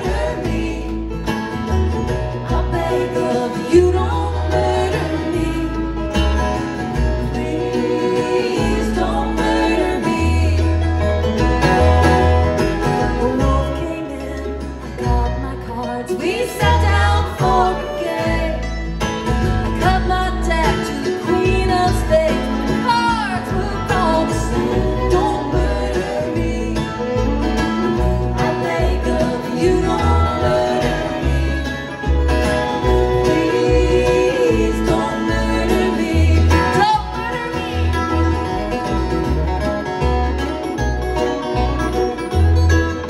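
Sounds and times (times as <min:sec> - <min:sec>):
woman singing lead: 0:00.0 - 0:39.3
banjo: 0:00.0 - 0:43.0
strummed acoustic guitar: 0:00.0 - 0:43.0.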